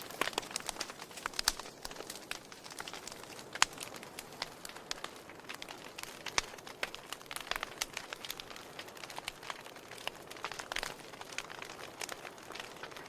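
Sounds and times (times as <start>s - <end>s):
soft steady fire hiss: 0.0s - 13.0s
wood fire crackling and popping: 0.0s - 13.0s.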